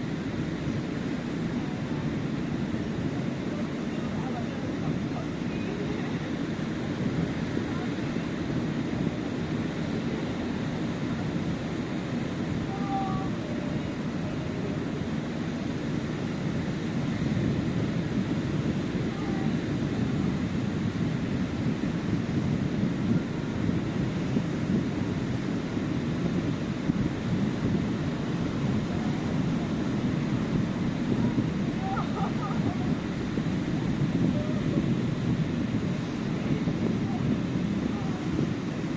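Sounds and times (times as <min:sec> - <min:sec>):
sea surf washing onto beach: 0:00.0 - 0:38.9.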